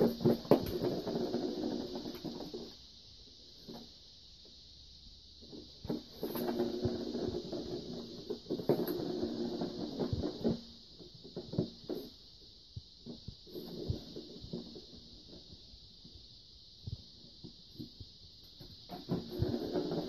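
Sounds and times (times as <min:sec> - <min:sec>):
ball rolling on plastic track: 0:00.0 - 0:02.8, 0:05.4 - 0:16.1, 0:17.3 - 0:20.0.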